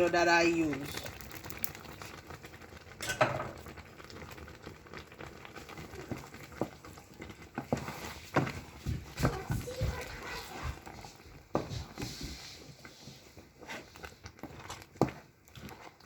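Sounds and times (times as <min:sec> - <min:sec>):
stew bubbling in a pot: 0:00.0 - 0:16.0.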